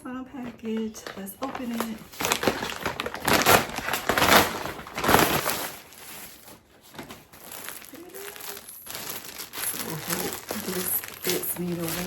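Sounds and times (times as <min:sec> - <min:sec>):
plastic bag rustling: 0:00.4 - 0:12.0
plastic bag ripping: 0:01.4 - 0:12.0.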